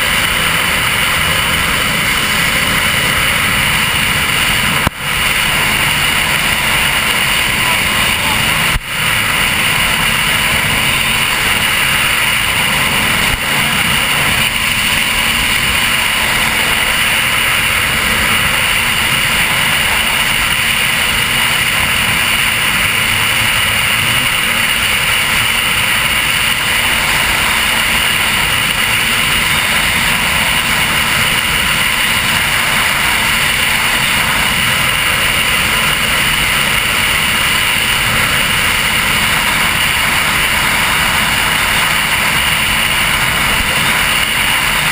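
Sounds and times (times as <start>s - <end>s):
powerboat engine: 0.0s - 44.9s
water rushing: 0.0s - 44.9s
wind: 0.0s - 44.9s.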